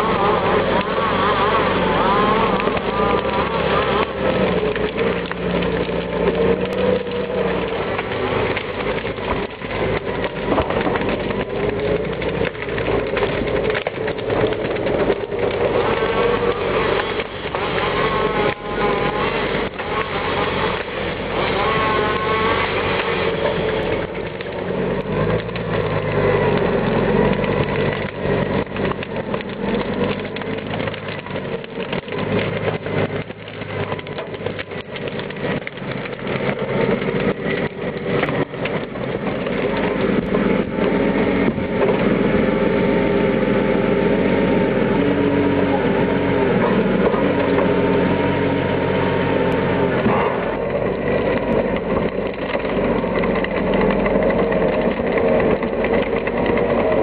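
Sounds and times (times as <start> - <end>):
knocks and clatter: 0.0 - 43.6, 49.4 - 57.0
tractor diesel engine running: 0.0 - 57.0
whine: 0.0 - 57.0.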